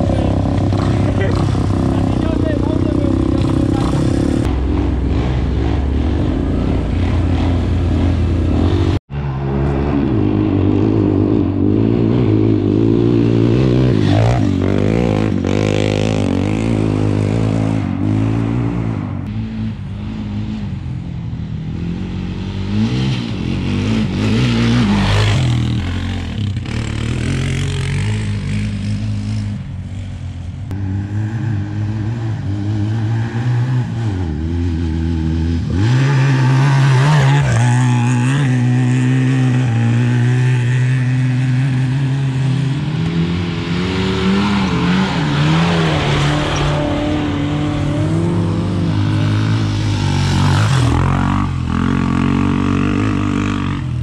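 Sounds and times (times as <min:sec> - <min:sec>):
quad bike engines revving: 0:00.0 - 0:54.0.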